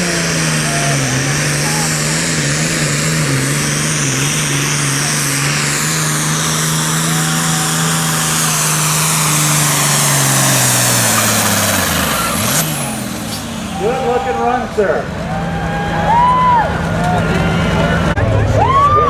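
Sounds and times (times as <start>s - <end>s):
tractor diesel engine at full throttle: 0.0s - 19.0s.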